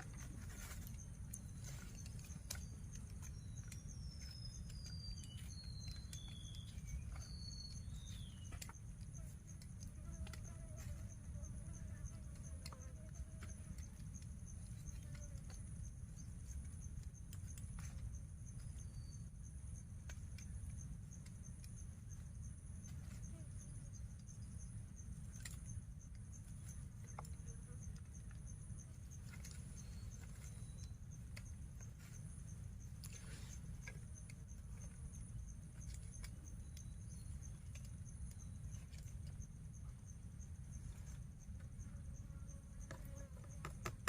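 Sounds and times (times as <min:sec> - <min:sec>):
constant low rumble: 0:00.0 - 0:44.0
faint clicks and ticks: 0:00.0 - 0:44.0
high insect chorus: 0:00.0 - 0:44.0
pulsing insect trills: 0:00.0 - 0:44.0.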